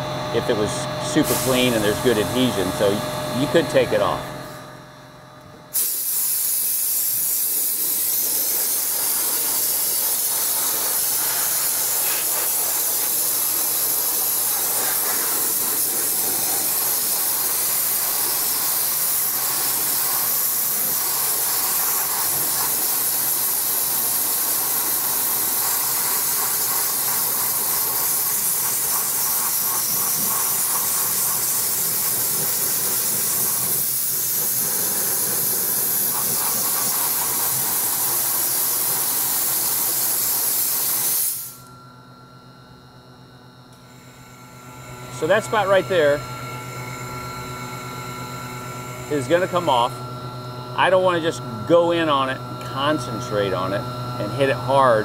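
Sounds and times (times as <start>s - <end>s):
dry ice blasting gun hissing: 0.4s - 4.2s, 5.7s - 41.7s, 43.8s - 47.9s, 48.6s - 50.0s.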